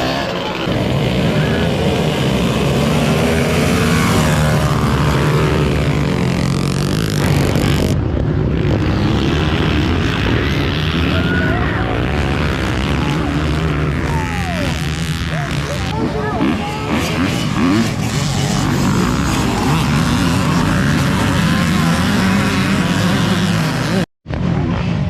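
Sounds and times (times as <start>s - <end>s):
motocross bike engines revving: 0.0s - 25.0s.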